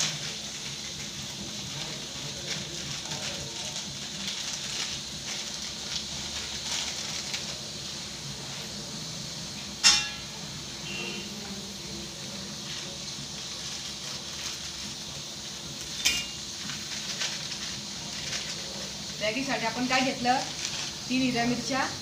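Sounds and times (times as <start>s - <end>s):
gas burner hissing: 0.0s - 22.0s.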